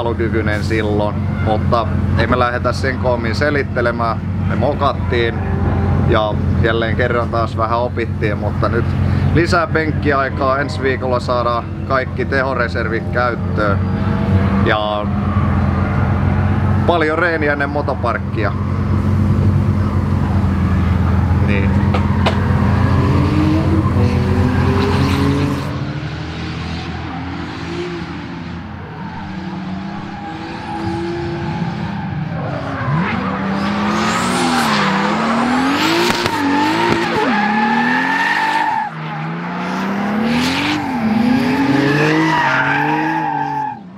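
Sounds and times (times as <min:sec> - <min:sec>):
car engine revving: 0:00.0 - 0:43.8
tyres squealing and skidding: 0:08.6 - 0:43.9.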